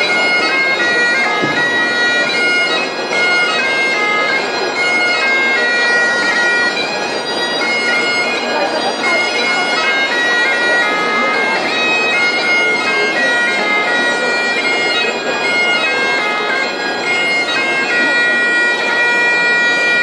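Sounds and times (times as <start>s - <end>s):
bagpipe playing a tune: 0.0s - 20.0s.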